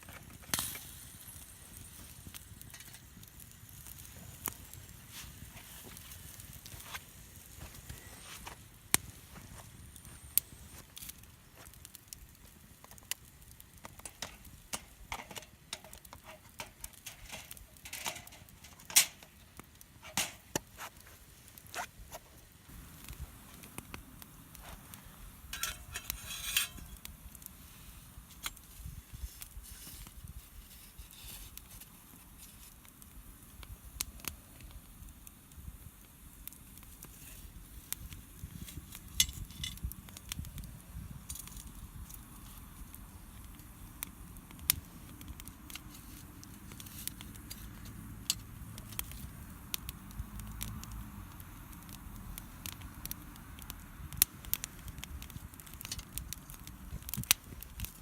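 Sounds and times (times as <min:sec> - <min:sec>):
campfire crackling and popping: 0:00.0 - 0:58.0
fire hissing: 0:00.0 - 0:58.0.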